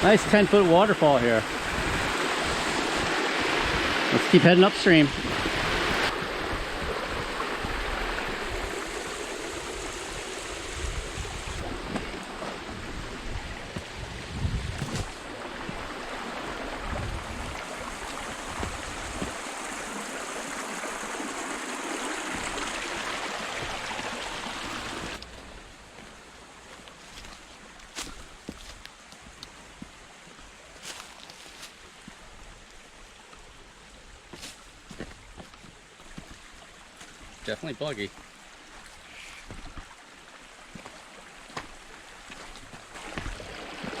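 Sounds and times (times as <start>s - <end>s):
small waterfall rushing: 0.0s - 44.0s.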